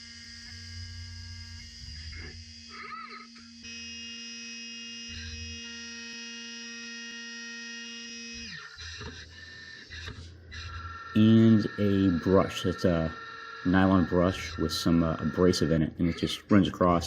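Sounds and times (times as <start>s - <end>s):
spindle motor whine: 0.0s - 17.0s.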